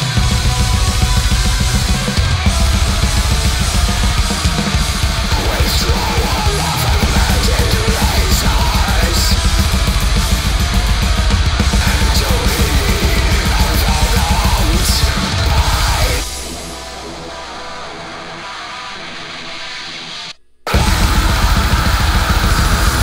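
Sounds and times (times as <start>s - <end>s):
rapid low drum hits: 0.0s - 16.4s, 20.7s - 23.0s
heavy metal music: 0.0s - 23.0s.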